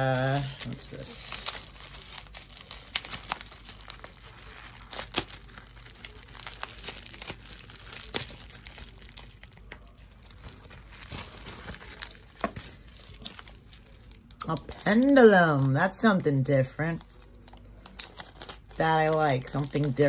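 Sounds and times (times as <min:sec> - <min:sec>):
bubble wrap crackling: 0:00.0 - 0:20.0.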